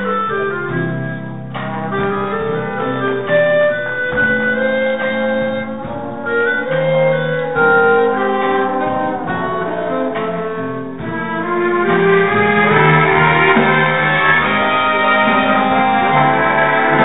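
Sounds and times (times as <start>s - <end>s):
jazz band playing slow ballad: 0.0s - 17.0s.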